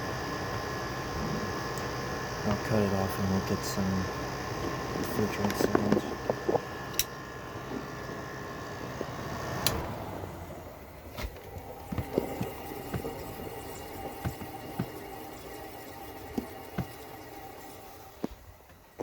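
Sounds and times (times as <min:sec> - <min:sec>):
compressor hum: 0:00.0 - 0:19.0
refrigerant hissing and gurgling: 0:00.0 - 0:19.0.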